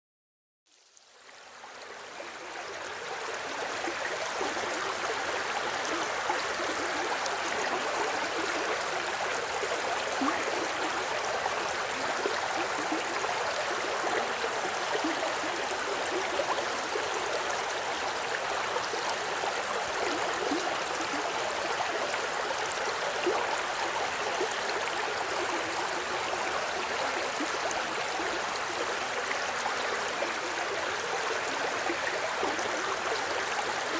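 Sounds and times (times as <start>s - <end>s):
stream of water flowing: 0.7s - 33.9s.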